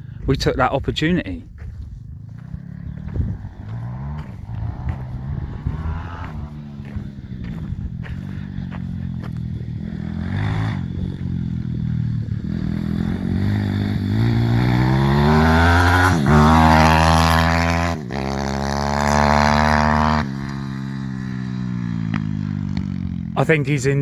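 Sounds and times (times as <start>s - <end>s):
motorbike engine accelerating: 1.6s - 23.4s.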